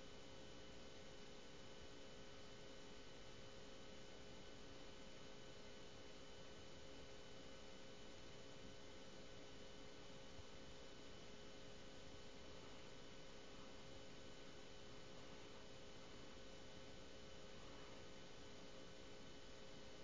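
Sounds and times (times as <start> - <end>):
faint tonal hum: 0.0 - 20.0
faint steady hiss: 0.8 - 20.0.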